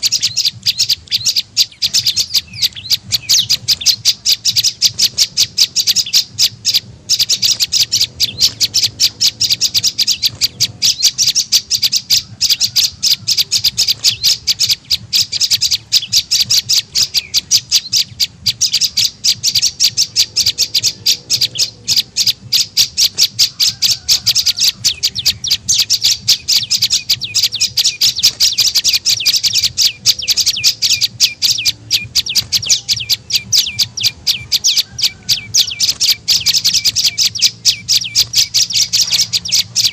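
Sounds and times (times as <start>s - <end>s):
high sharp bird chirps: 0.0s - 39.9s.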